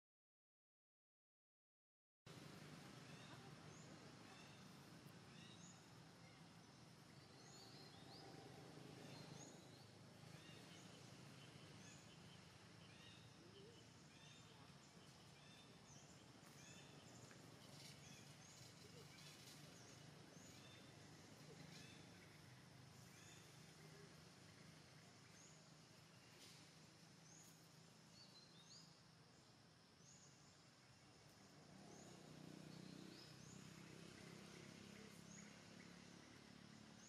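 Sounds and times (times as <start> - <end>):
small birds chirping: 2.3 - 37.0.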